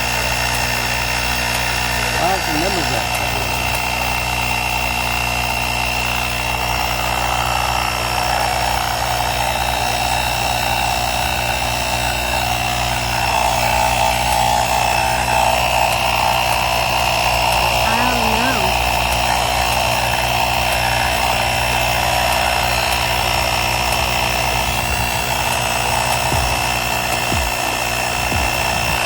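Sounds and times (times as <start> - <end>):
portable air compressor running: 0.0 - 29.0.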